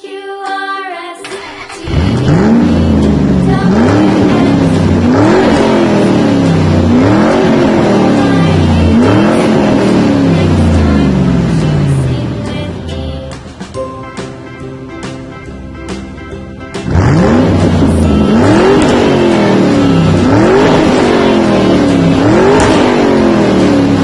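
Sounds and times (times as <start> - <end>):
car engine revving: 1.4 - 13.6, 16.7 - 24.0.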